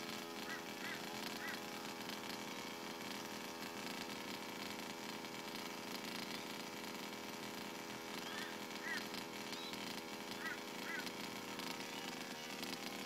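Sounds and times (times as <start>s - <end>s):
small two-stroke engine droning: 0.0s - 13.0s.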